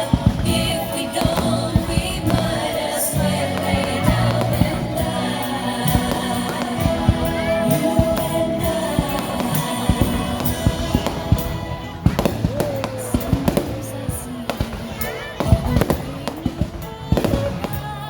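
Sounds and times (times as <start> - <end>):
music with singing voice: 0.0 - 18.0.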